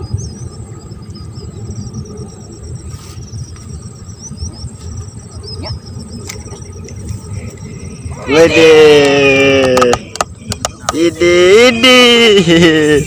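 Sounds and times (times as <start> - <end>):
insects chirping trill: 0.0 - 13.0
low rumble: 0.0 - 13.0.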